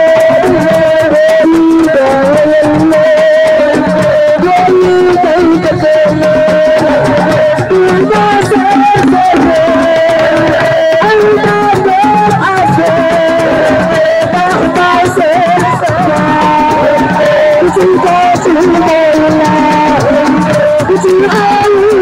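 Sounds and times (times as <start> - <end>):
hand drumming: 0.0 - 22.0
rattling percussion: 0.0 - 22.0.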